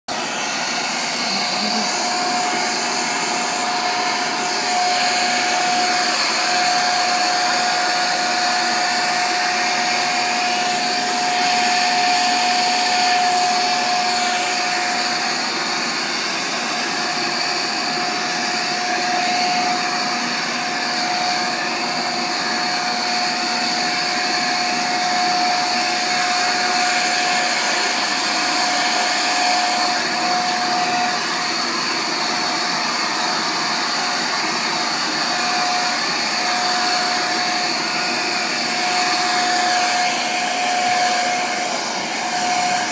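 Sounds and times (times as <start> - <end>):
leaf blower running: 0.1 - 42.9.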